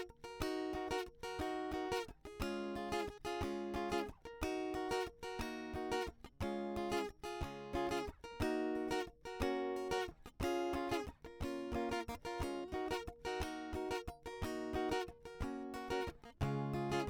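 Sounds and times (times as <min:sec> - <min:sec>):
plucked acoustic guitar chords: 0:00.0 - 0:17.0.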